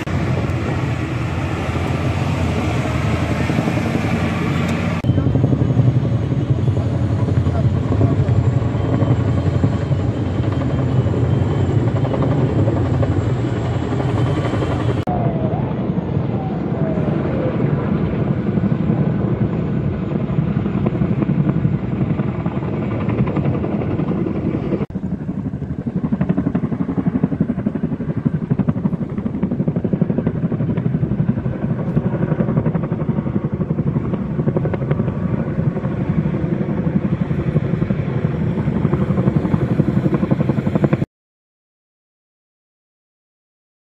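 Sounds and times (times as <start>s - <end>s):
helicopter rotor chopping: 0.0s - 41.1s.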